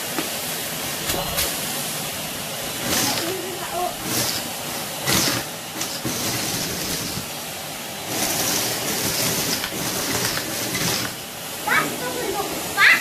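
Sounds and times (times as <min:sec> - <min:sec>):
vacuum cleaner running: 0:00.0 - 0:13.0
nozzle hissing over shavings: 0:00.4 - 0:13.0.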